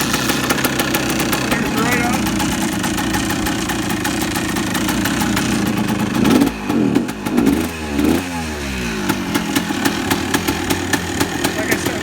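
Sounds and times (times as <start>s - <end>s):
two-stroke engine idling and revving: 0.0s - 12.0s.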